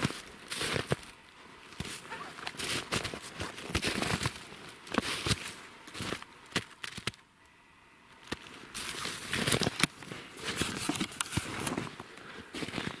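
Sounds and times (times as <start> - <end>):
footsteps crunching snow and leaves: 0.0 - 7.2, 8.2 - 13.0.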